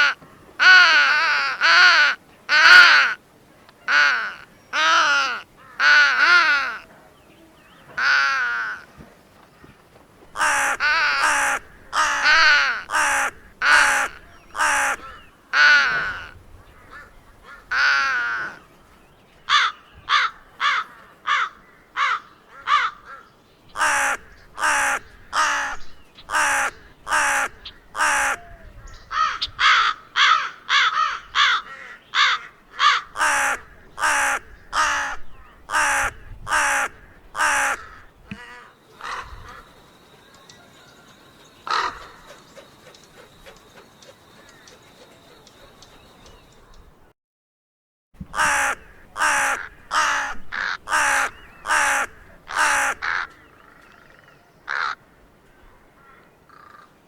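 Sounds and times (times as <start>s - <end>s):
crow cawing: 0.0s - 3.2s, 3.9s - 6.9s, 8.0s - 8.9s, 10.4s - 18.6s, 19.5s - 46.6s, 48.4s - 55.0s, 56.0s - 56.9s.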